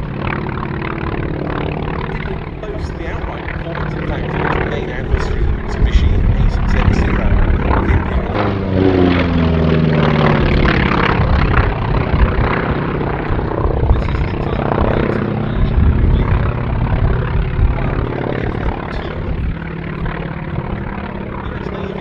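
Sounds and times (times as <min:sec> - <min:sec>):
propeller plane engine overhead: 0:00.0 - 0:22.0.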